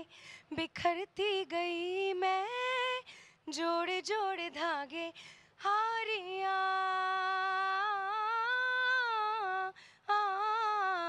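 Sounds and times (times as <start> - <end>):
woman singing a cappella: 0.0 - 11.0.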